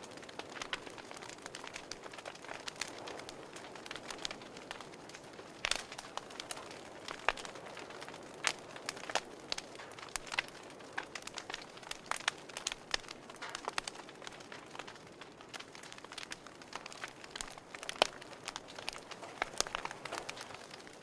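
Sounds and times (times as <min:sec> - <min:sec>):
soft hiss of burning logs: 0:00.0 - 0:21.0
wood fire crackling and popping: 0:00.0 - 0:21.0.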